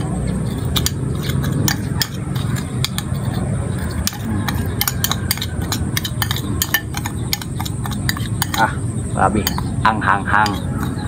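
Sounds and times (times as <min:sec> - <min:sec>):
metal spoon clinking against bowl: 0:00.0 - 0:11.0.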